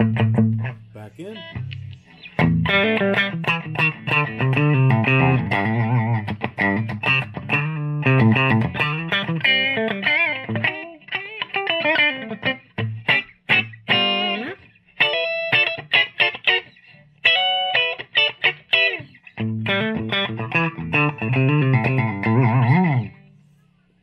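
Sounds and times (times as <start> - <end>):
electric guitar playing: 0.0 - 23.4.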